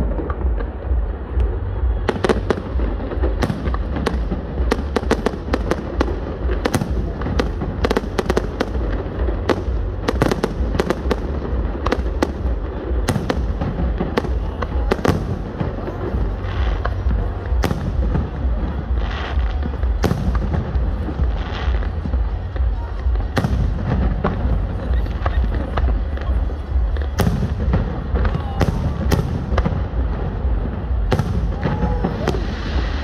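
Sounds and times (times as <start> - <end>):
deep rumble: 0.0 - 33.0.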